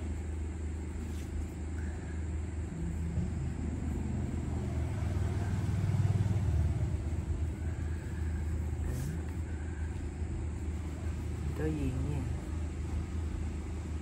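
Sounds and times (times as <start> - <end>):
low rumble: 2.5 - 14.0.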